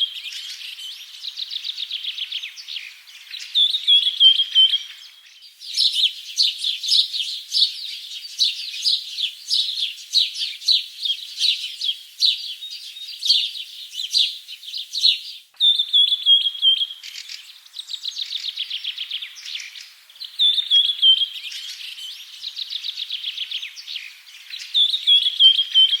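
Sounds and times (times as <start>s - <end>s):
songbird chirping and trilling: 0.0s - 26.0s.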